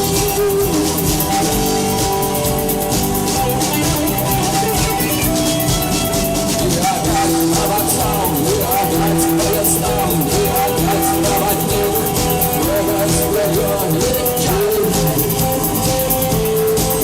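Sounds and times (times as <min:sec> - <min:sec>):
drum kit steady beat: 0:00.0 - 0:17.0
electric guitars melody: 0:00.0 - 0:17.0
rock band playing live: 0:00.0 - 0:17.0.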